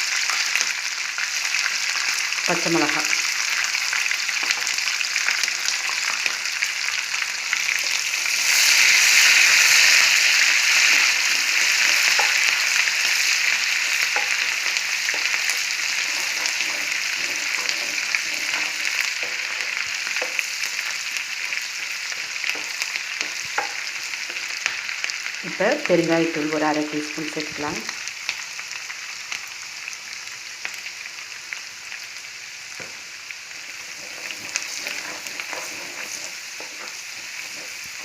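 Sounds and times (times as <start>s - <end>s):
oil sizzling in a pan: 0.0s - 38.0s.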